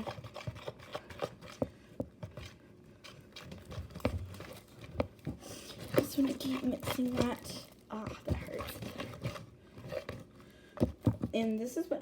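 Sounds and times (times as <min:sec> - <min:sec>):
fork stirring sticky slime: 0:00.0 - 0:10.3
soft squishing: 0:00.0 - 0:11.5.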